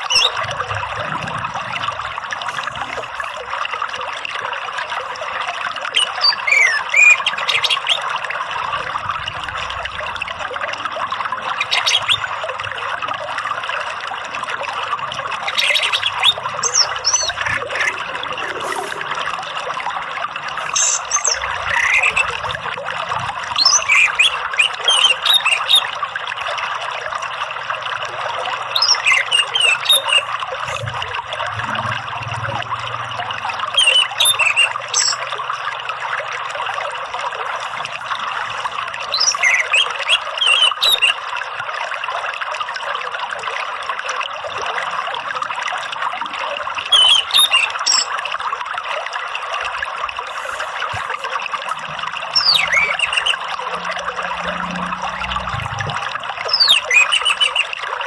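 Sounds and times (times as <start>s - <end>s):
trickling water: 0.0s - 58.0s.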